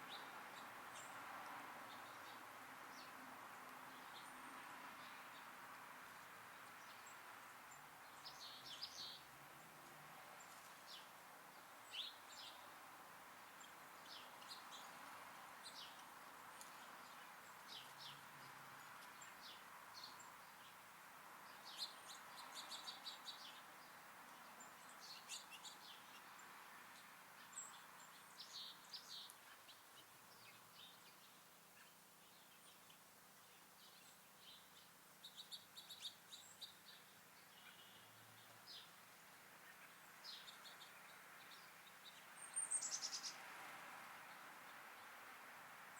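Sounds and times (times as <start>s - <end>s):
faint background hiss: 0.0s - 45.9s
songbirds chirping: 0.0s - 45.9s.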